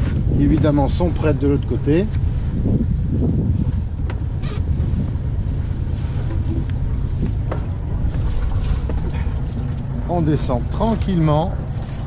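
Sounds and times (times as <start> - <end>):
boat engine low rumble: 0.0 - 12.0
wind on microphone: 0.0 - 12.0.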